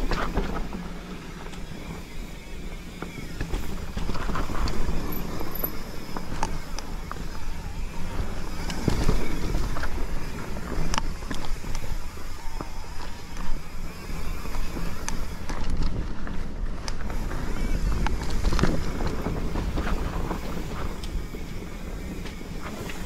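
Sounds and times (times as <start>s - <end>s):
bike clicks and rattles: 0.0s - 23.0s
bike tyres rumbling on dirt: 0.0s - 23.0s
wind on microphone: 0.0s - 23.0s.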